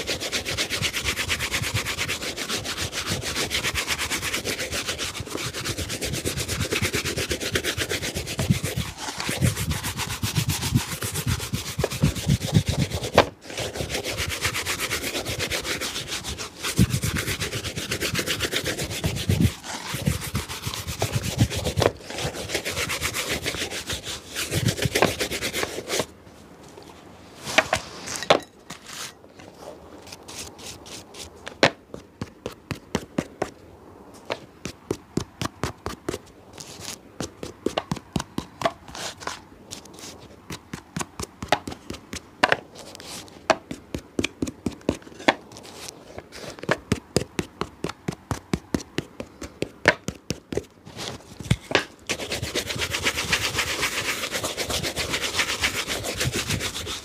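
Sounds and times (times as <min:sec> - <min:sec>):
rubbing strokes on shoe: 0:00.0 - 0:26.2, 0:27.4 - 0:33.5, 0:34.5 - 0:57.0.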